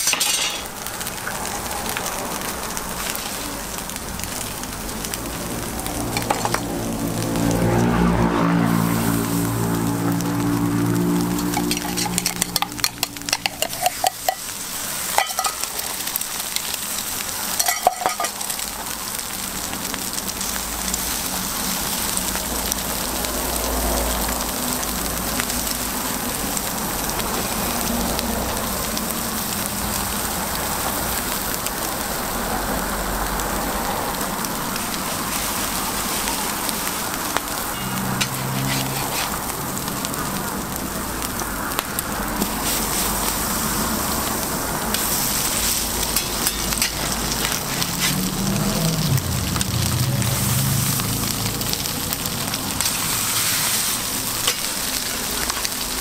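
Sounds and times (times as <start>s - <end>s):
food sizzling on griddle: 0.0s - 56.0s.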